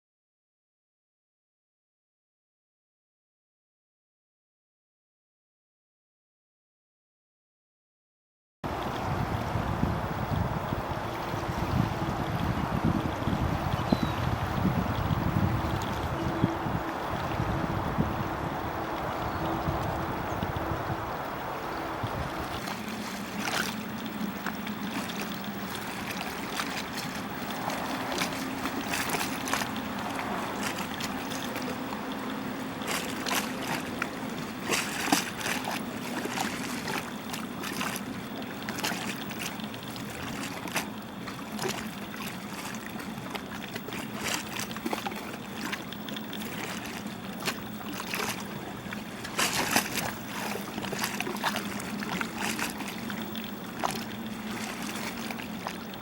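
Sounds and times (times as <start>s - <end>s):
river water flowing: 8.6s - 56.0s
steady low hum: 8.7s - 56.0s.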